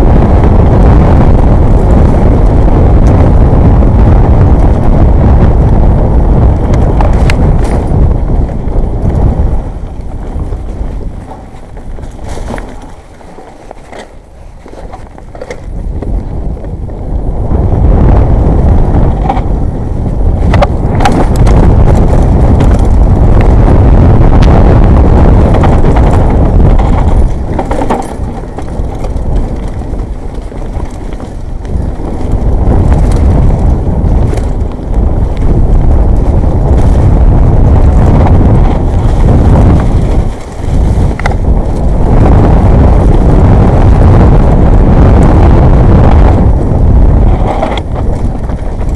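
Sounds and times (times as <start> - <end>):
bike rattling on trail: 0.0 - 48.9
wind buffeting microphone: 0.0 - 48.9.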